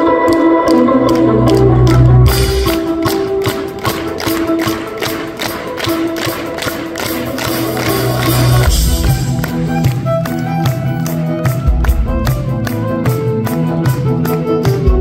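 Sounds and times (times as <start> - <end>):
electric guitar: 0.0 - 15.0
drum kit: 2.3 - 15.0.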